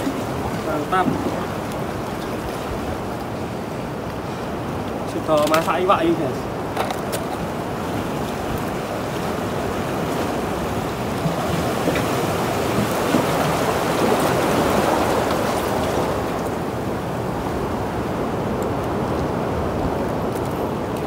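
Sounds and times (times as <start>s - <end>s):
surf washing on rocky shore: 0.0s - 21.0s.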